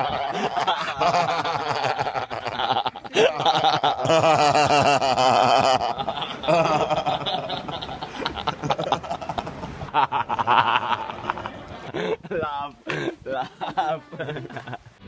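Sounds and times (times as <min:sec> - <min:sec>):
people giggling and cackling: 0:00.0 - 0:15.0.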